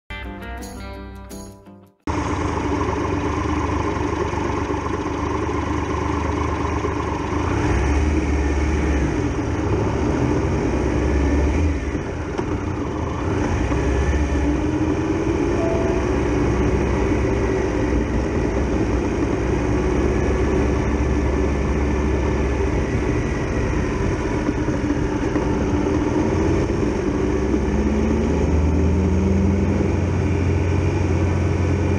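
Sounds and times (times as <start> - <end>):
motorcycle engine running: 2.1 - 27.8.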